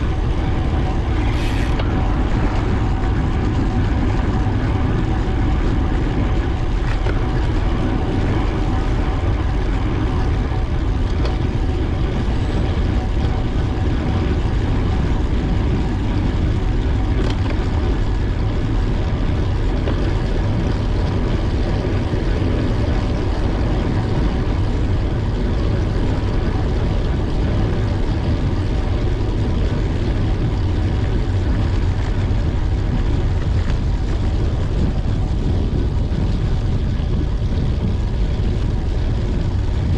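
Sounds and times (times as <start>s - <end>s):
wind and road noise rumble: 0.0s - 39.9s.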